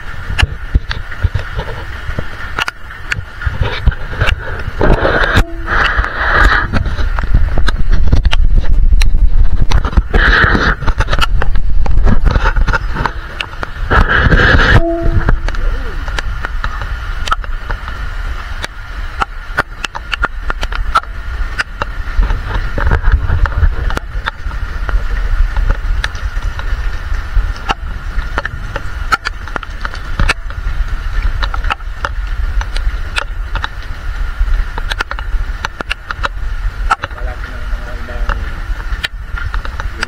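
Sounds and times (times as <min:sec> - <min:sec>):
rain clicks on microphone: 0:00.0 - 0:40.0
wind rumble on microphone: 0:00.0 - 0:40.0.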